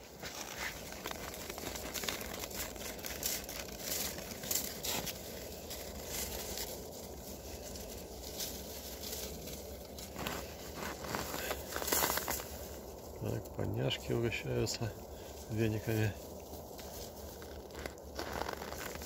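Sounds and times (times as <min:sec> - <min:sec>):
animals chewing twigs: 0:00.0 - 0:19.0
twigs rustling and crackling: 0:00.0 - 0:19.0.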